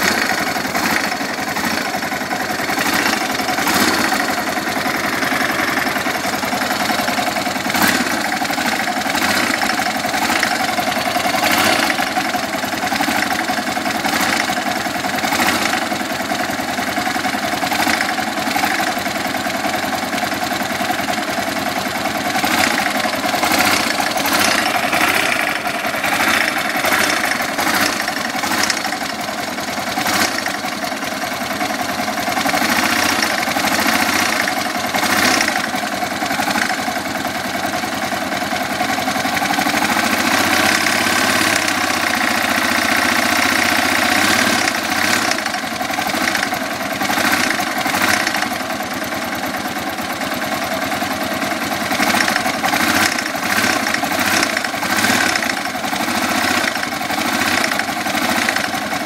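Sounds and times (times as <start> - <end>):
motorcycle engine idling: 0.0 - 59.0
sharp engine ticks: 0.0 - 59.0.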